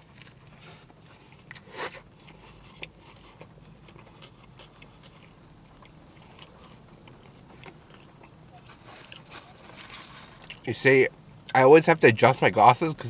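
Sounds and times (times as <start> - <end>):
chewing burger: 0.0 - 10.8.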